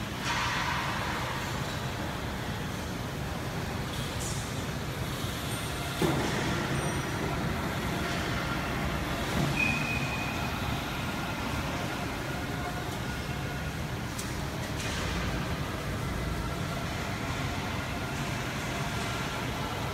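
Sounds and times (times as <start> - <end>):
machining center running: 1.0 - 19.9.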